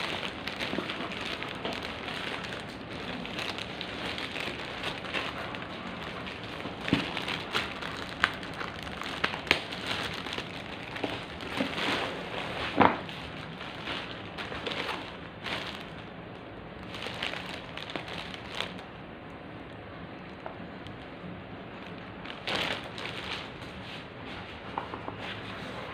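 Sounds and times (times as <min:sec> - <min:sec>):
plastic wrapping crinkling: 0:00.0 - 0:25.9.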